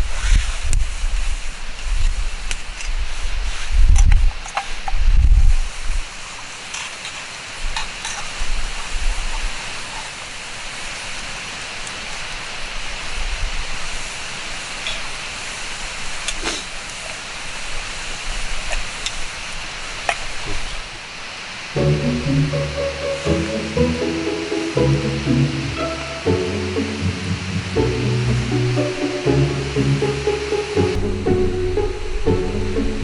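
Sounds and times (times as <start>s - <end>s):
sizzling hiss: 0.0s - 33.0s.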